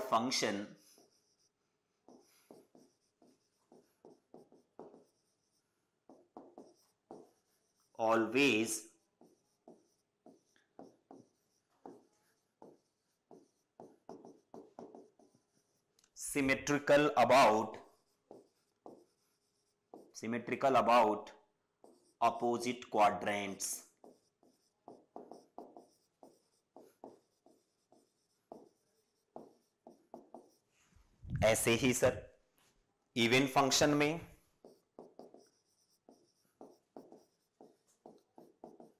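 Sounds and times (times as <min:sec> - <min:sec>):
marker squeaking on whiteboard: 0:00.0 - 0:32.3, 0:33.2 - 0:38.9.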